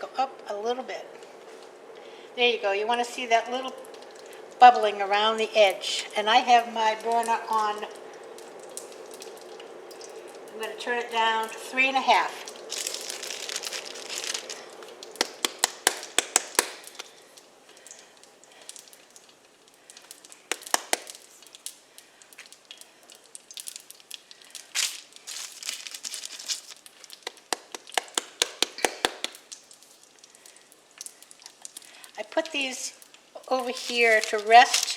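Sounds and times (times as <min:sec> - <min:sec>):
dough sizzling in fat: 0:00.0 - 0:34.9
oil crackling and popping: 0:03.1 - 0:34.9.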